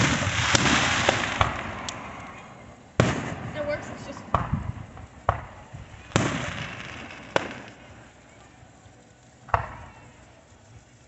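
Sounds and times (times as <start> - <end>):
firework bangs: 0.0 - 10.6.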